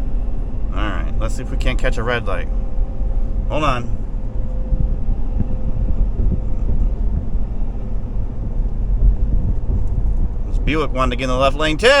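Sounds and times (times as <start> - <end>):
truck engine and tyre rumble: 0.0 - 12.0.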